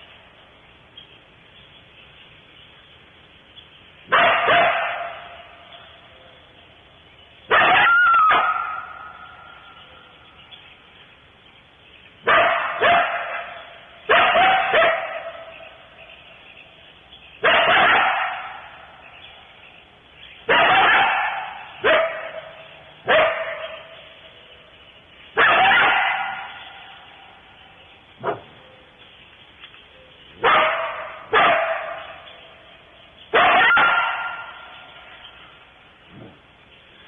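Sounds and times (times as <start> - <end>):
coyotes barking: 4.0 - 6.8, 7.4 - 10.9, 12.2 - 29.4, 30.0 - 37.0.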